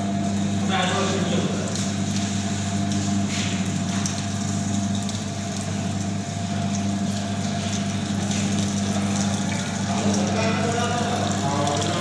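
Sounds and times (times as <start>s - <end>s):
juice machine motor hum: 0.0s - 12.0s.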